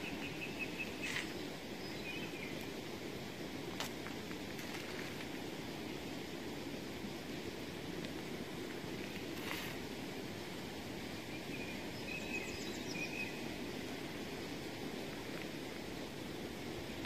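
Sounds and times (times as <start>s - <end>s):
open air hiss: 0.0s - 17.0s.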